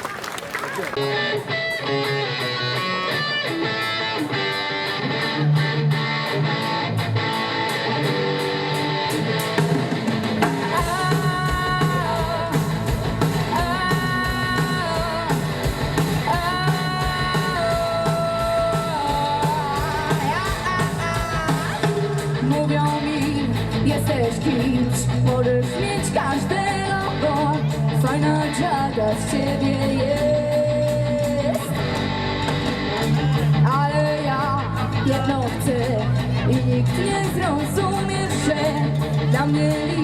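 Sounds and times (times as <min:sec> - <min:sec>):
drums: 0:00.0 - 0:40.0
electric guitar: 0:00.3 - 0:40.0
bass guitar: 0:01.0 - 0:40.0.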